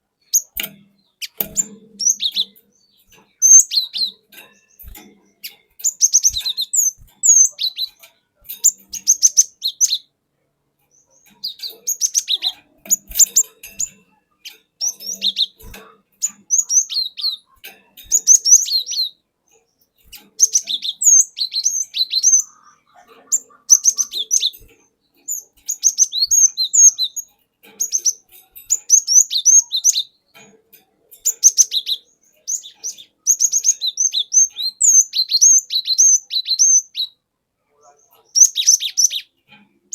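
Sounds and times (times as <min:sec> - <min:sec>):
bird singing whistled notes: 0:00.2 - 0:10.1, 0:10.9 - 0:15.6, 0:16.2 - 0:19.2, 0:20.1 - 0:30.2, 0:31.2 - 0:37.2, 0:38.3 - 0:39.3.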